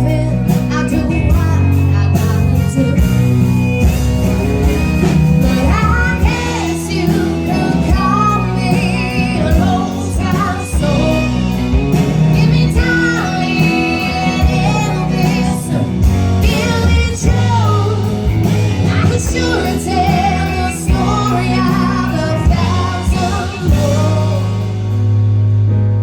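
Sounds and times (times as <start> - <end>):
wavering lead melody: 0.0 - 25.9
steady bass: 0.0 - 26.0
drum beats: 0.5 - 25.6.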